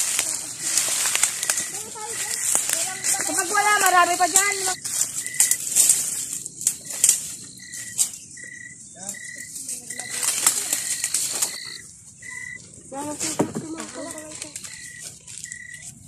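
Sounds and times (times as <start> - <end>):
dry leaves and twigs rustling: 0.0 - 16.0.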